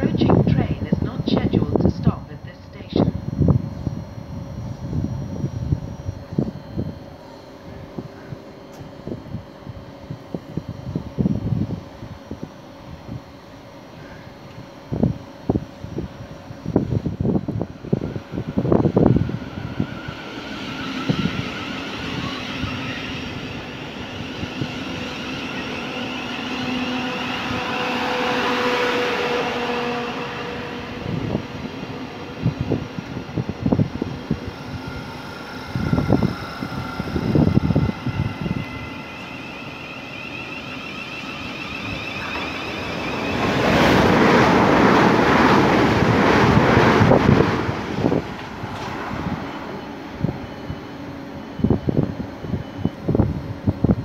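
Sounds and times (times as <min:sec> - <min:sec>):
electric train motor whine: 0:00.0 - 0:54.0
train wheel and rail noise: 0:00.0 - 0:54.0.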